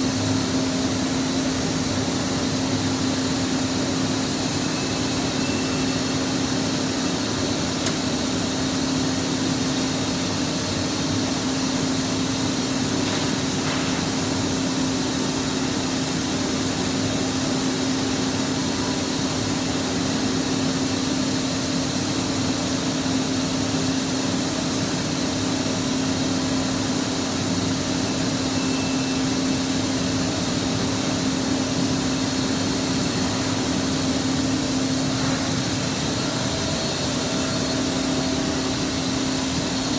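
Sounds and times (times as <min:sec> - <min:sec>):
boiler hiss: 0:00.0 - 0:39.9.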